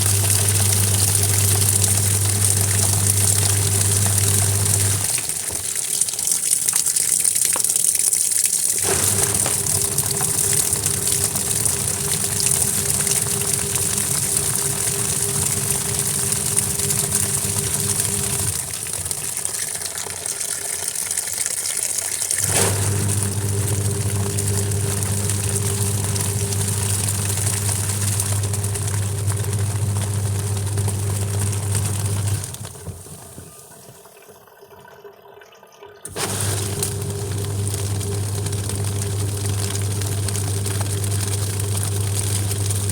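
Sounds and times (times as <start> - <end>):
electric motor pump hum: 0.0 - 5.8, 8.7 - 20.2, 22.3 - 34.0, 36.0 - 42.9
rushing water in washing machine: 0.0 - 35.4, 36.0 - 42.9.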